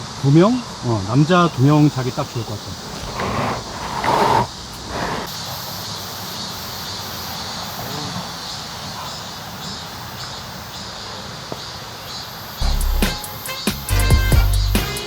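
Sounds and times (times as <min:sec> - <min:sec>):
faint insect chirp: 0:00.2 - 0:13.6.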